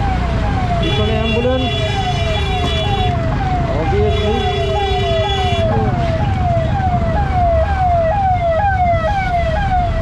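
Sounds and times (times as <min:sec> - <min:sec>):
ambulance siren: 0:00.0 - 0:10.0
low traffic rumble: 0:00.0 - 0:10.0.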